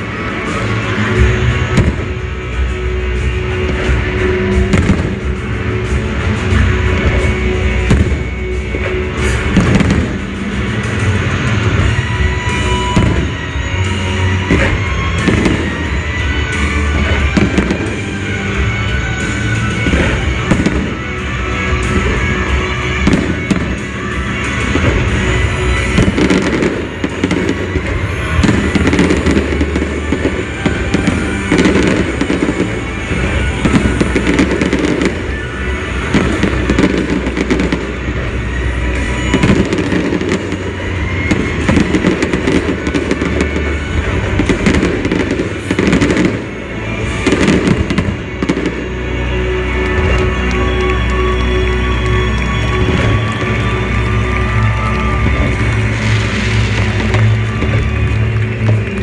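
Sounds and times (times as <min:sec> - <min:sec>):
fireworks bursting: 0:00.0 - 0:59.0
music playing: 0:00.0 - 0:59.0.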